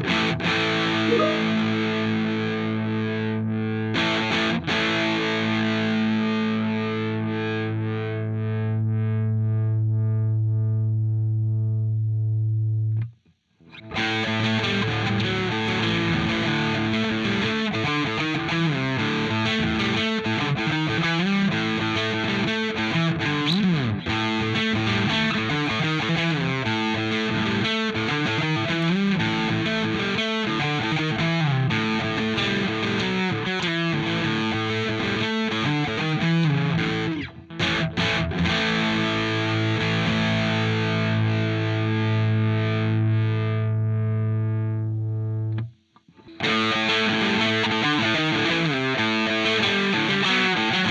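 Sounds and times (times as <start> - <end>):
distorted electric guitar: 0.0 - 11.7, 13.7 - 50.9.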